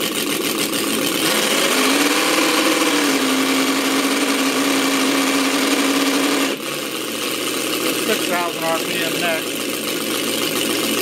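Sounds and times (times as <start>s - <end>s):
model engine revving: 0.8s - 11.0s.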